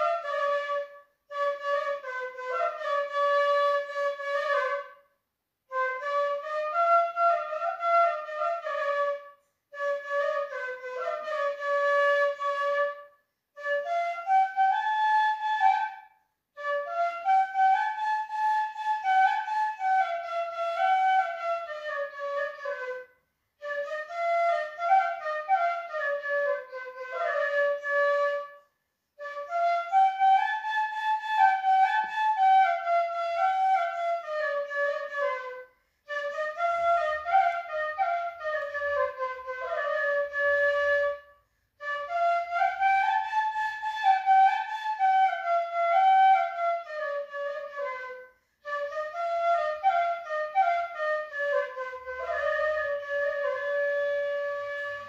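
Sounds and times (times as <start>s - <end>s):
solo flute melody: 0.0s - 55.0s.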